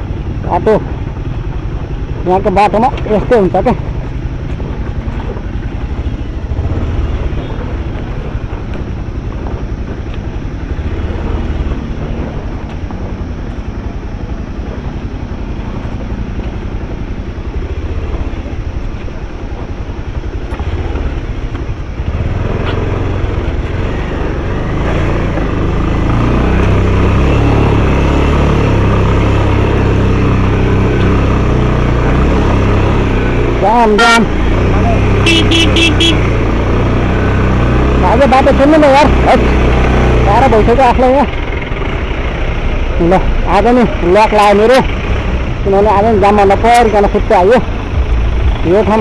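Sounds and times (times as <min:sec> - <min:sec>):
motorcycle engine rumbling: 0:00.0 - 0:49.0.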